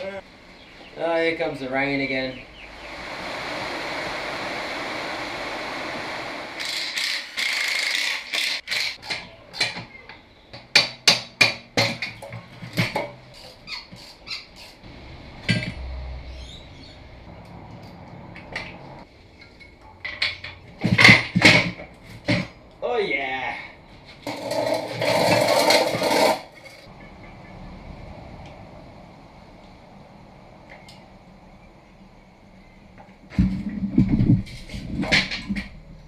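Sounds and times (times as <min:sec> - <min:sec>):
rain-like hiss: 0:00.0 - 0:07.7, 0:14.7 - 0:36.0.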